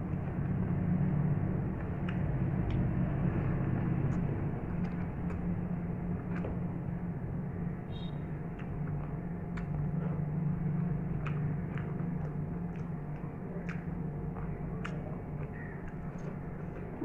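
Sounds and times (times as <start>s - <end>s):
steady low hum: 0.0s - 17.0s
wet chewing clicks and smacks: 0.1s - 17.0s.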